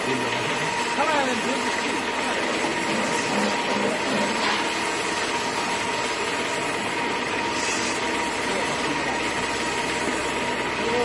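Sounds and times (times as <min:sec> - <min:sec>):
drum screen motor humming: 0:00.0 - 0:11.0.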